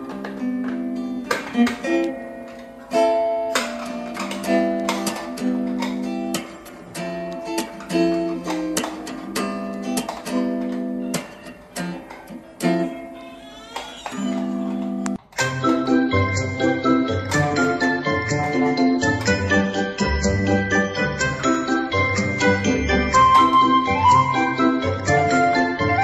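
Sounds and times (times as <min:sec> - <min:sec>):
plucked acoustic guitar melody: 0:00.0 - 0:13.6, 0:14.2 - 0:26.0.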